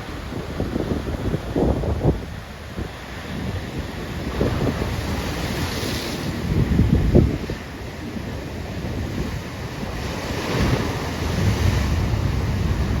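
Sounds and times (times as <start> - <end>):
sea waves washing in: 0.0 - 13.0
wind buffeting microphone: 0.0 - 13.0.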